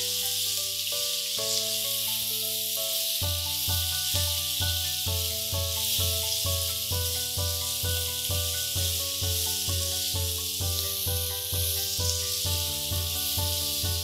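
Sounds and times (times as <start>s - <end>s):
background music with beat: 0.0s - 14.0s
steady hiss: 0.0s - 14.0s.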